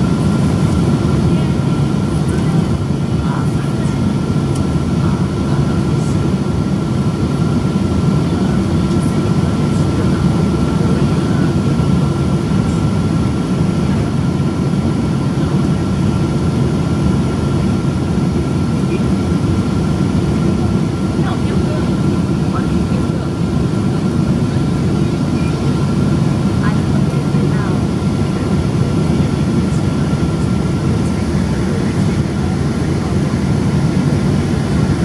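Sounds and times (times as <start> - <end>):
airplane cabin engine rumble: 0.0 - 35.0
thin steady whine: 0.0 - 35.0.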